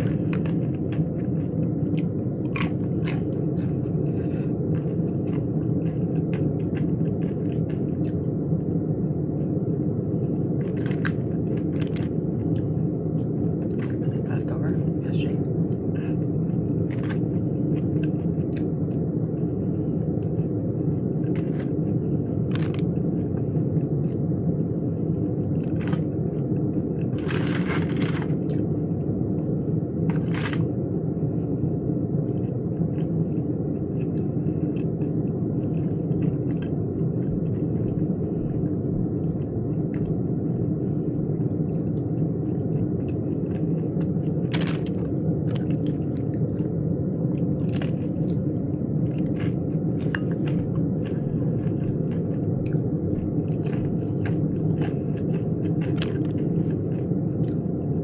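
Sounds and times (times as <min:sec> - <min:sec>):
chewing and crunching food: 0:00.0 - 0:58.0
steady low hum: 0:00.0 - 0:58.0.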